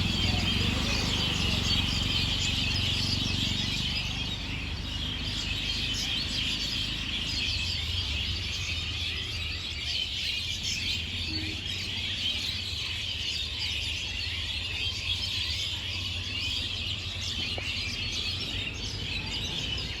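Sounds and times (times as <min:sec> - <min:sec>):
flock of birds chirping: 0:00.0 - 0:20.0.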